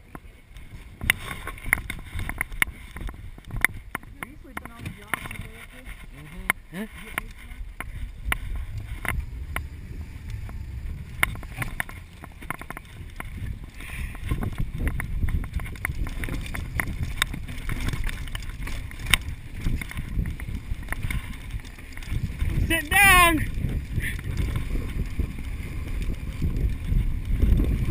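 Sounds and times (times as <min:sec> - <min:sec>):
bike clicking and rattling: 0:00.0 - 0:27.9
tyres on dirt: 0:00.0 - 0:27.9
wind on microphone: 0:00.0 - 0:27.9.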